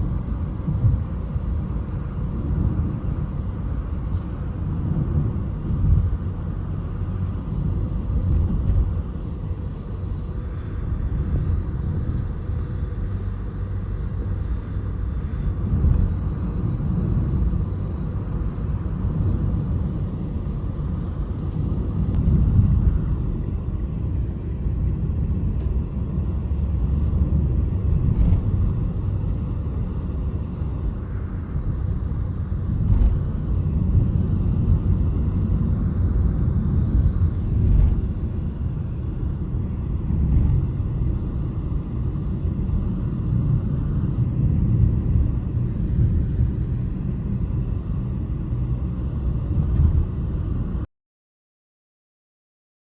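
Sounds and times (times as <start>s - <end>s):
low steady rumble: 0.0s - 50.9s.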